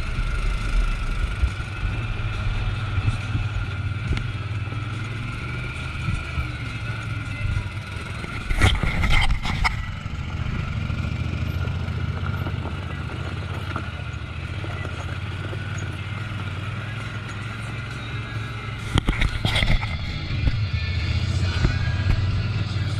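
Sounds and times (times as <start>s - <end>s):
vehicle engine running: 0.0s - 22.9s.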